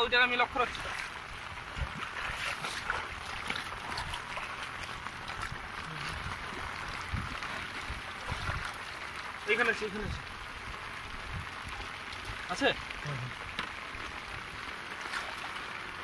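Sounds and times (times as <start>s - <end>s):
light rain on water: 0.0s - 16.0s
splashes of wading: 0.0s - 16.0s.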